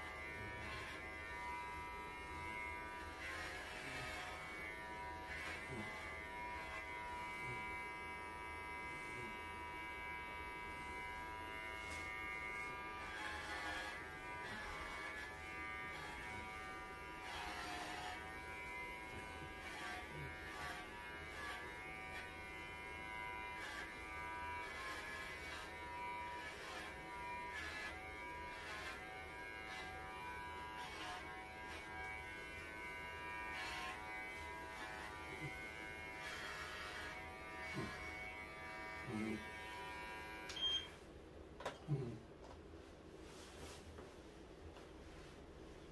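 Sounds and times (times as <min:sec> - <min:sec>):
electric clippers buzzing: 0:00.0 - 0:41.0.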